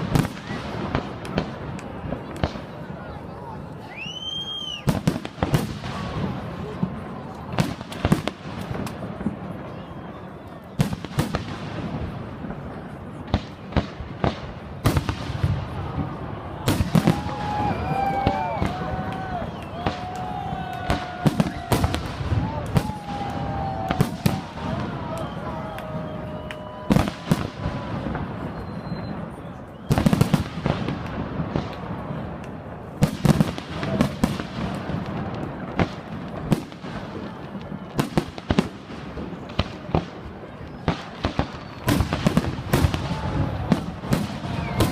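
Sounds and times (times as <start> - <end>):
fireworks bangs: 0.0 - 44.9
outdoor background noise: 0.0 - 44.9.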